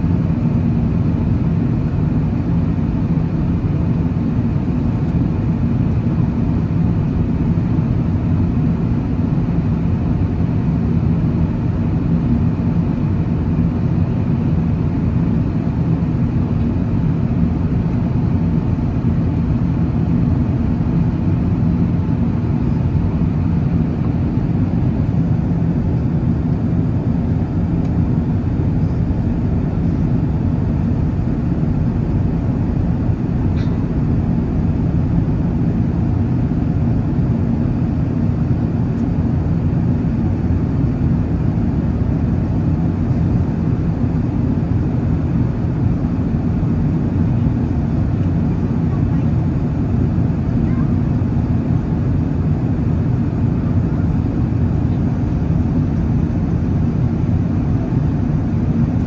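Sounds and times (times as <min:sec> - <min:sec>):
aircraft cabin roar: 0:00.0 - 0:59.0
low even hum: 0:00.0 - 0:59.0.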